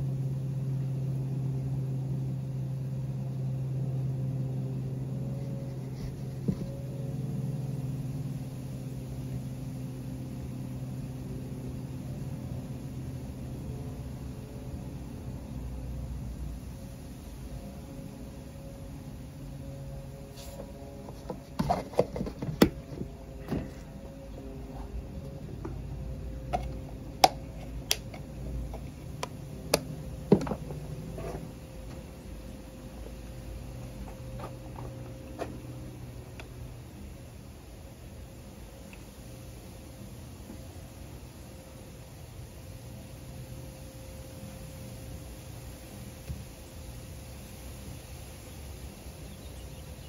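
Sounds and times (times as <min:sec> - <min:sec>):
low mechanical hum: 0:00.0 - 0:50.0.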